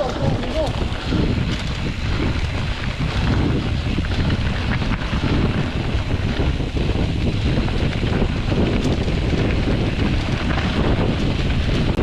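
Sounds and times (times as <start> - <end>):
bike clicks and knocks: 0.0 - 12.0
wind buffeting microphone: 0.0 - 12.0.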